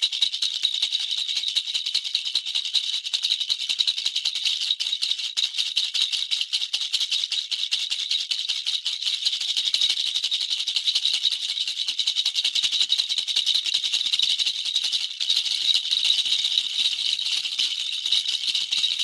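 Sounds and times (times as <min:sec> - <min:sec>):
toy rattle shaking: 0:00.0 - 0:19.0.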